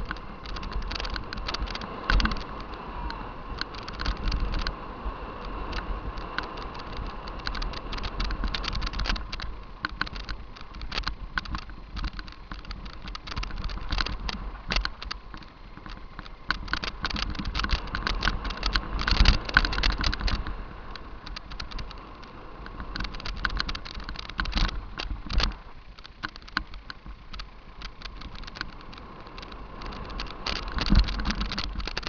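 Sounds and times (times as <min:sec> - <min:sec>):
bike chain and frame clatter: 0:00.0 - 0:32.0
tyre noise and low rumble: 0:00.0 - 0:32.0.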